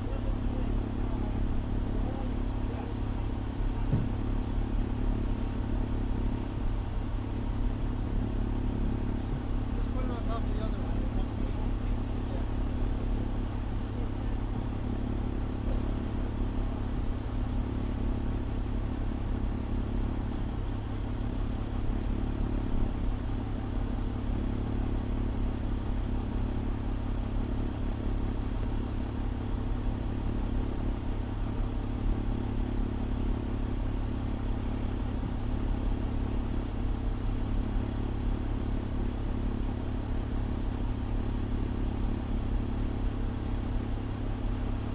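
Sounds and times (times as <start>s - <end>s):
diesel engine rumbling: 0.0s - 44.9s.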